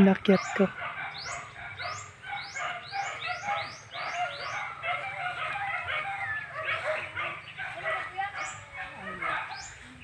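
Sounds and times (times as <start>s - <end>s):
birds calling and chirping: 0.0s - 10.0s.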